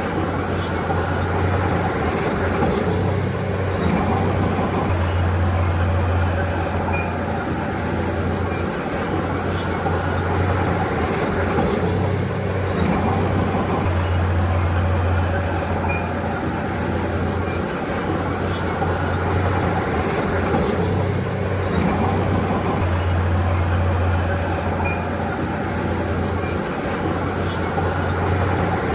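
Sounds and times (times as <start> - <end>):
bulldozer diesel engine droning: 0.0 - 28.9
steel tracks squeaking and clinking: 0.0 - 28.9.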